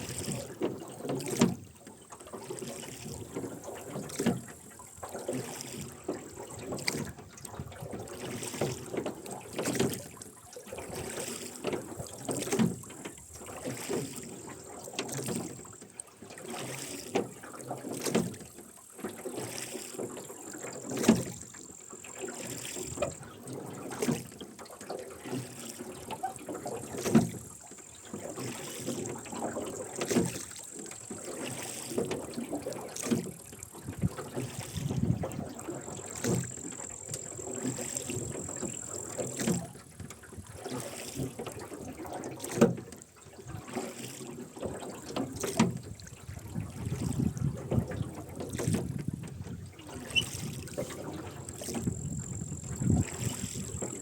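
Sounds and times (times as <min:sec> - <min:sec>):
oars splashing: 0:00.0 - 0:54.0.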